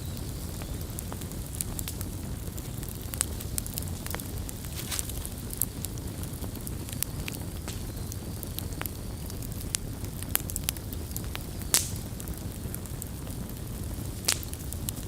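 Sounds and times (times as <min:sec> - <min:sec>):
campfire low rumble: 0:00.0 - 0:15.0
firewood crackling and popping: 0:00.0 - 0:15.0.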